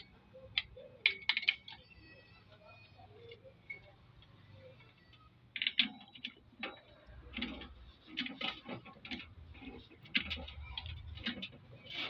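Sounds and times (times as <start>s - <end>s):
light clicks and knocks of parts: 0.0s - 2.6s, 3.2s - 12.0s.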